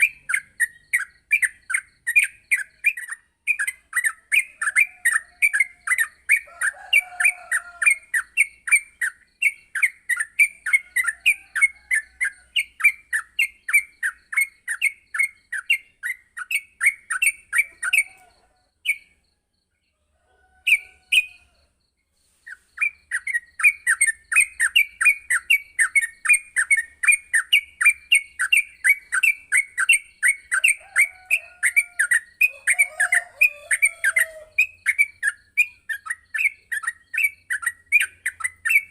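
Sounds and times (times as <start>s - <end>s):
bird chattering song: 0.0s - 19.2s, 22.2s - 38.9s.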